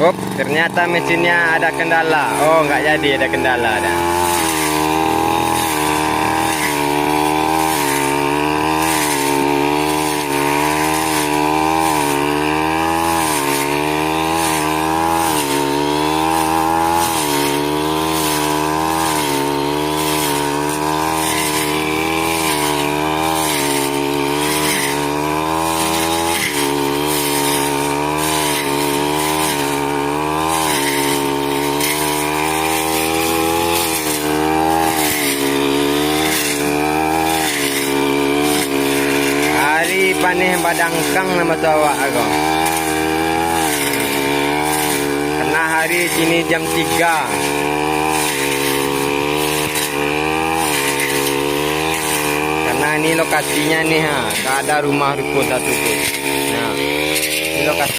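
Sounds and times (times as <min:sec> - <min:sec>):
small petrol engine wavering: 0:00.0 - 0:57.9.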